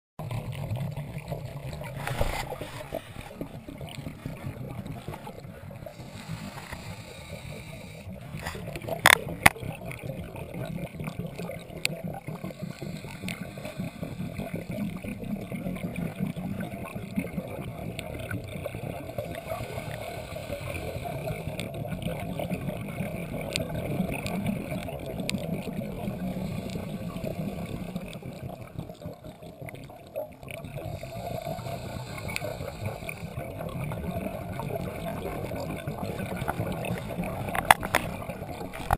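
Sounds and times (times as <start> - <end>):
underwater rushing: 0.2 - 38.9.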